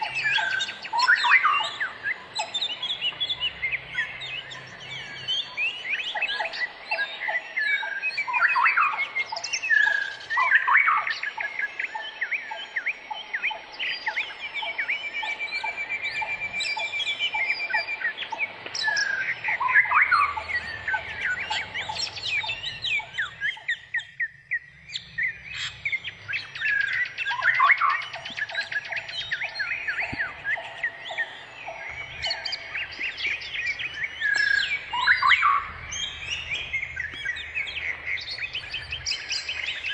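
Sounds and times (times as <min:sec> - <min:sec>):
fast bird trill: 0:00.0 - 0:24.2, 0:24.9 - 0:39.9
birds chirping in chorus: 0:00.0 - 0:39.9.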